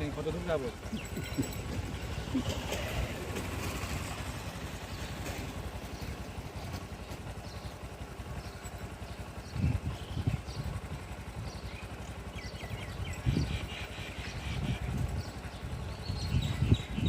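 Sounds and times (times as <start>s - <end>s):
small vehicle engine running: 0.0s - 17.0s.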